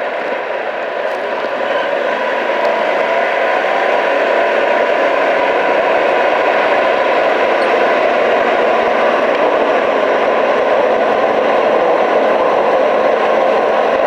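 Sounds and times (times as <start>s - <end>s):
faint steady hum: 0.0s - 13.8s
fan blower rushing: 0.0s - 14.0s.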